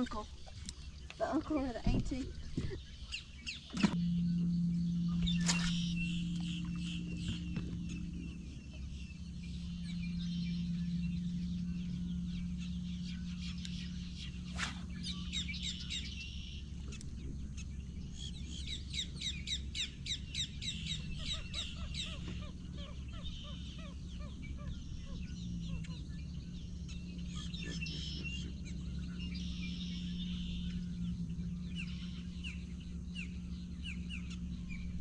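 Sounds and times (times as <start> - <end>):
birds chirping and calling: 0.0 - 35.0
steady low hum: 0.0 - 35.0.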